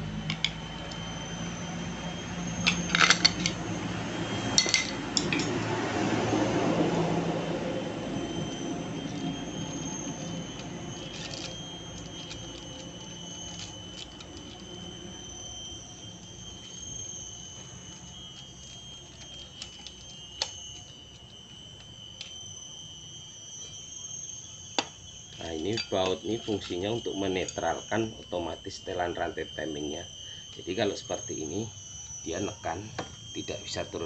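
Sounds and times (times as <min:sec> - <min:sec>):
high-pitched insect trill: 0:00.0 - 0:34.0.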